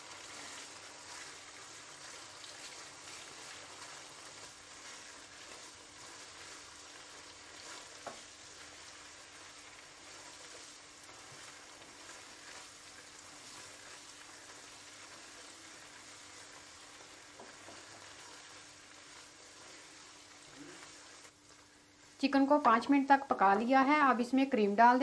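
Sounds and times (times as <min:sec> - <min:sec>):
spatula stirring in a pan: 0:00.0 - 0:22.2
chicken sizzling in butter: 0:00.0 - 0:22.3.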